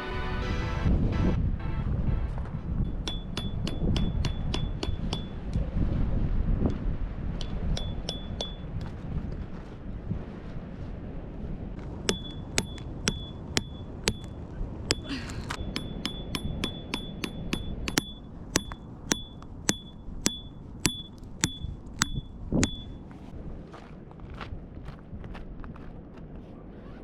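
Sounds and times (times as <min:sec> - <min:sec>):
low rumble of wind: 0:00.0 - 0:27.0.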